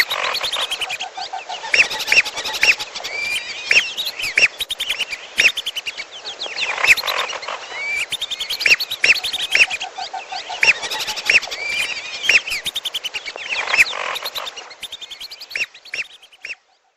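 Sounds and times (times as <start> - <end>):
bird chattering: 0.0 - 1.0, 1.6 - 6.0, 6.6 - 9.9, 10.5 - 16.6
whistling duck calls: 0.0 - 1.0, 1.7 - 6.0, 6.8 - 9.9, 10.6 - 16.6.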